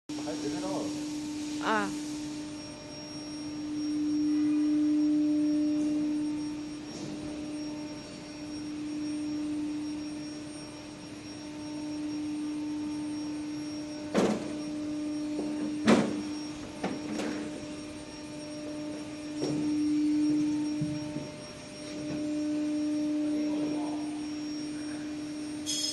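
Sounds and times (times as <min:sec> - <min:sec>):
electrical hum: 0:00.1 - 0:25.9.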